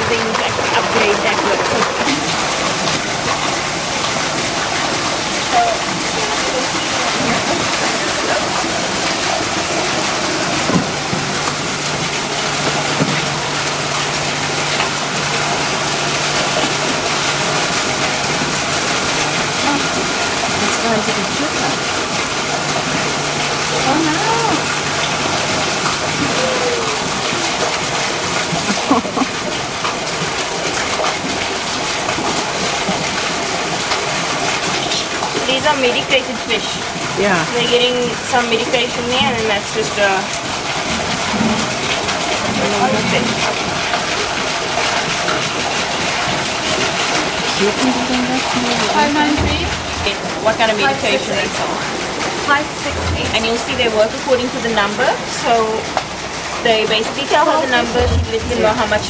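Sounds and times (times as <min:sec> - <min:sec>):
low steady hum: 0:00.0 - 0:59.0
running water rushing: 0:00.0 - 0:59.0.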